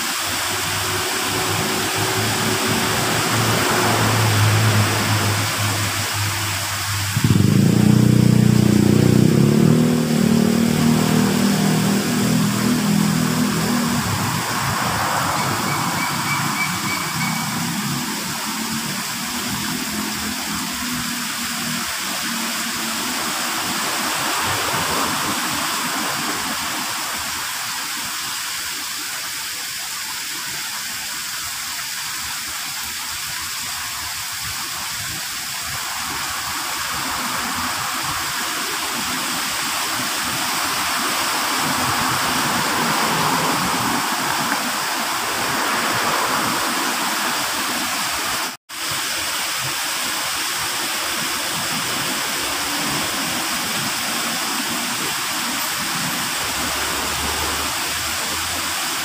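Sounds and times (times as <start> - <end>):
waterfall splashing into pond: 0.0 - 59.0.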